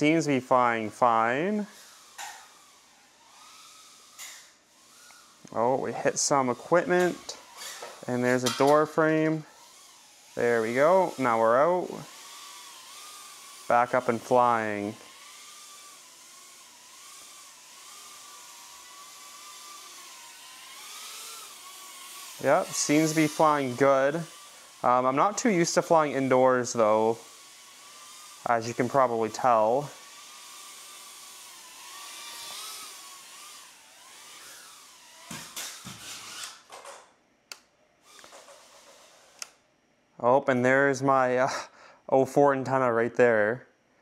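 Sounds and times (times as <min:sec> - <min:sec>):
small drone motors whining: 0:00.6 - 0:36.9, 0:38.0 - 0:39.6.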